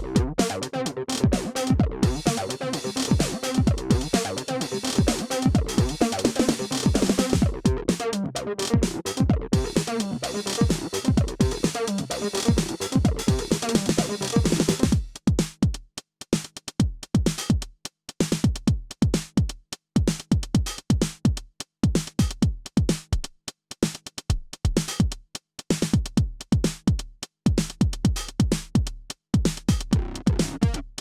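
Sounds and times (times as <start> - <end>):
drum machine kick thuds: 0.0 - 0.6, 1.2 - 8.0, 8.7 - 31.0.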